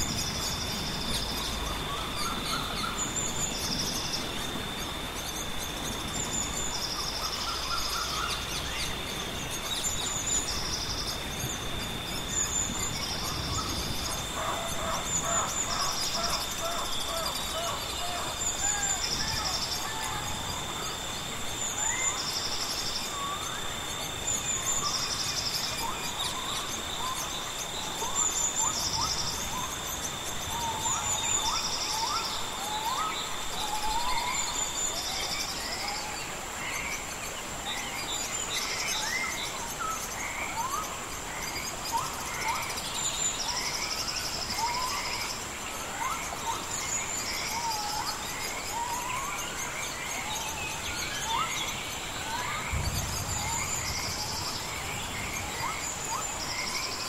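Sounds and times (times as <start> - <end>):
birds whistling rising calls: 0.0 - 37.0, 37.6 - 57.0
high-pitched insect drones: 0.0 - 57.0.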